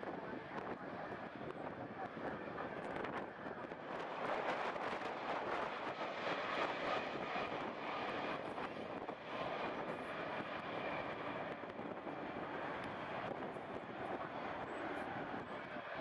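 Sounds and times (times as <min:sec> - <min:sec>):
jet engines of landing airliner: 0:00.0 - 0:16.0.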